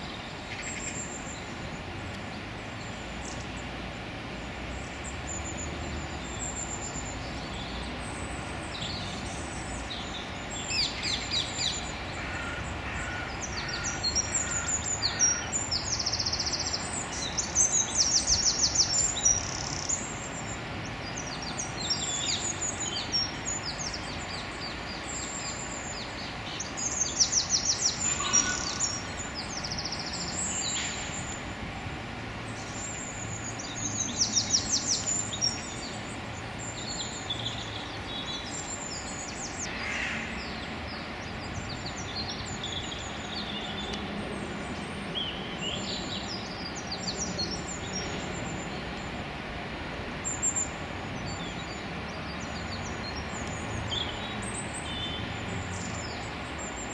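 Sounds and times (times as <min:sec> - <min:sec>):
songbirds trilling: 0:00.0 - 0:56.9
steady background noise: 0:00.0 - 0:56.9.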